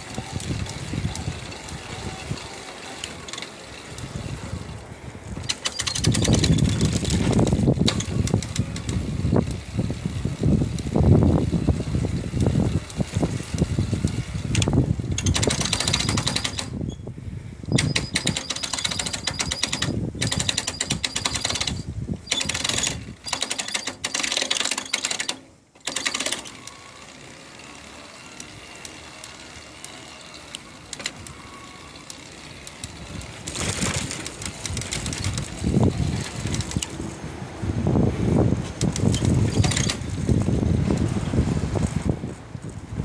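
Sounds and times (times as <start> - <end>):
bicycle drive unit rattling: 0.0 - 37.3, 38.2 - 41.2.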